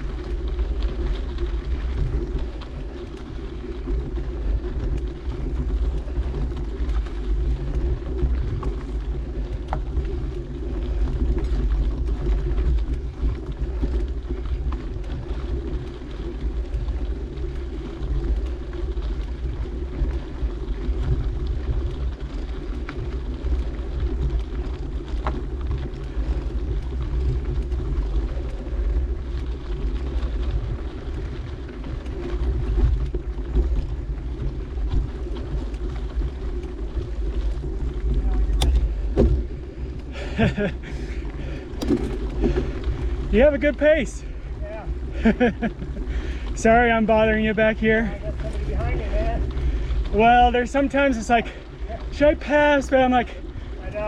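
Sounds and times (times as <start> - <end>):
faint ticks: 0.0 - 43.6
bike tyres rolling on dirt: 0.0 - 54.0.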